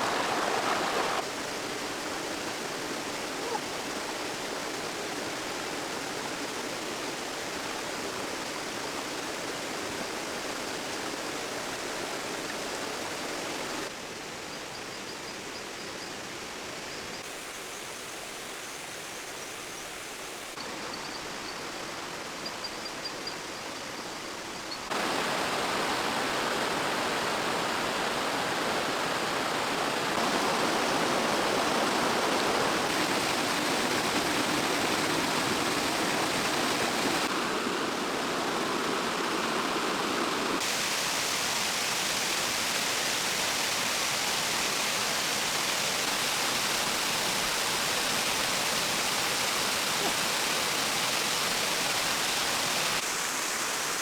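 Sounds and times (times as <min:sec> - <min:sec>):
rushing water: 0:00.0 - 0:15.0, 0:16.1 - 0:54.0.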